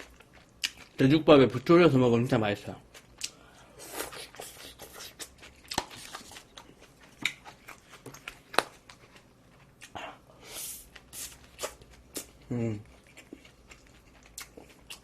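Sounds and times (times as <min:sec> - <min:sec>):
chewing: 0:00.0 - 0:01.6, 0:02.8 - 0:10.2, 0:10.8 - 0:15.0.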